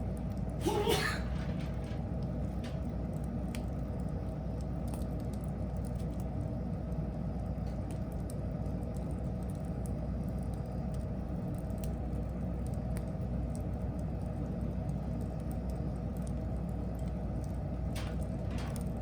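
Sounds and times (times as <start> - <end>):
fire crackles and pops: 0.0 - 19.0
fire flame rushing: 0.0 - 19.0.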